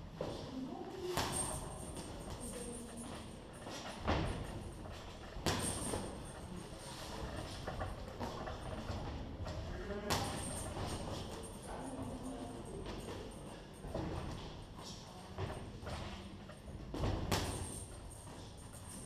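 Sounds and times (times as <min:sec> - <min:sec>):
gym background noise: 0:00.0 - 0:19.0.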